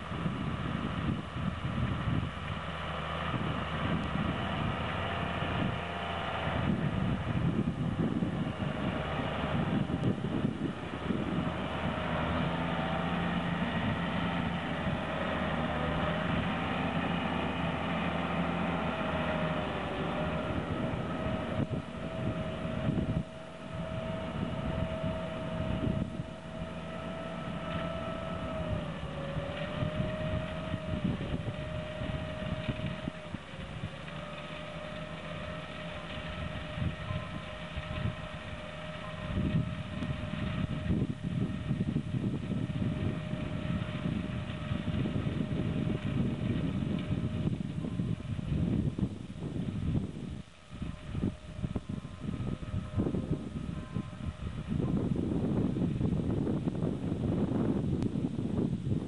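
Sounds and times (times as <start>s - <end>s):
tractor engine running: 0.0s - 59.0s
steady machine whine: 3.3s - 59.0s.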